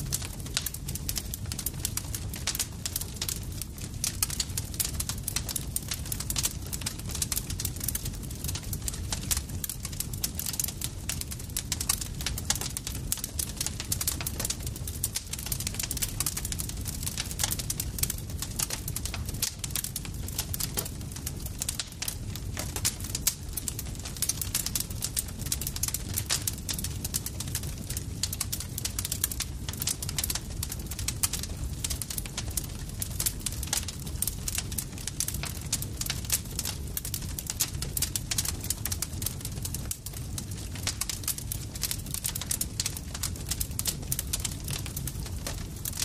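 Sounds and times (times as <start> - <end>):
campfire crackling: 0.0 - 46.0
low rumble of burning: 0.0 - 46.0.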